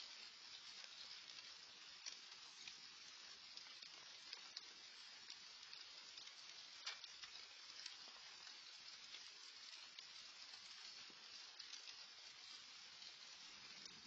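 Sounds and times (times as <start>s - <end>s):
light rain hiss: 0.0s - 14.0s
raindrops ticking: 0.0s - 14.0s.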